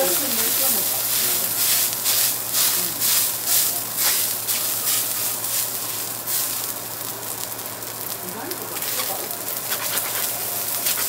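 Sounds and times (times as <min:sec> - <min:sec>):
rice sizzling on a griddle: 0:00.0 - 0:11.0
steady low hum: 0:00.0 - 0:11.0.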